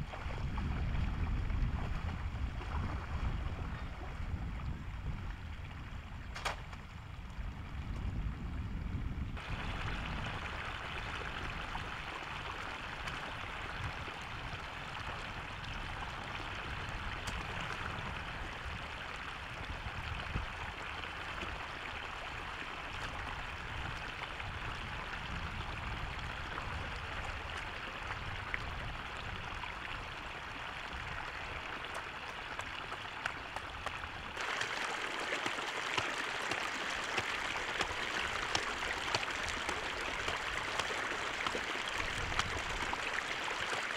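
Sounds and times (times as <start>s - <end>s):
floodwater running and splashing: 0.0s - 5.1s, 9.4s - 43.9s.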